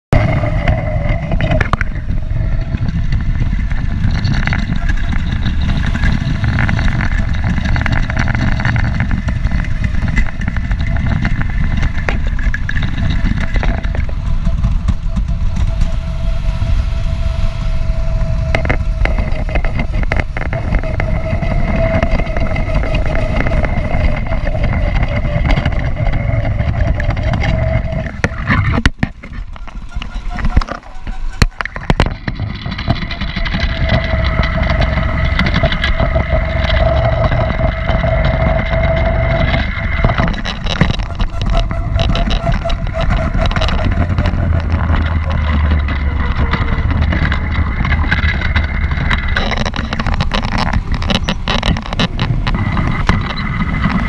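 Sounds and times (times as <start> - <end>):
wind rumble on microphone: 0.0 - 54.0
go-kart engine running: 0.1 - 54.0.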